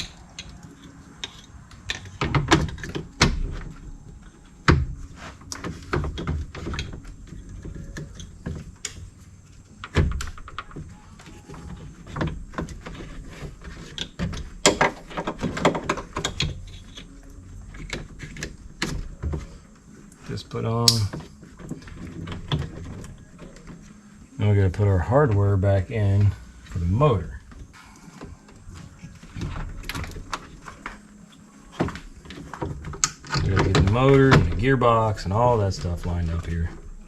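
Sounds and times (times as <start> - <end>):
knocks clunks and rattles: 0.0 - 37.0.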